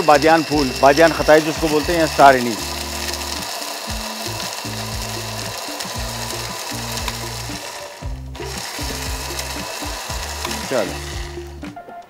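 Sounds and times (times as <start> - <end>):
electric spice grinder running: 0.0 - 11.8.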